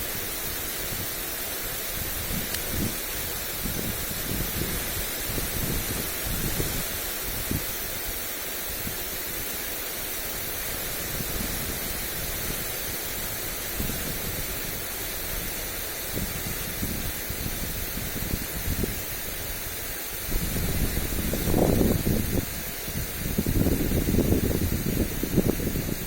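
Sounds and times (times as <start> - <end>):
lawn sprinkler spraying: 0.0 - 26.0
wind buffeting microphone: 1.9 - 7.7, 10.9 - 26.0.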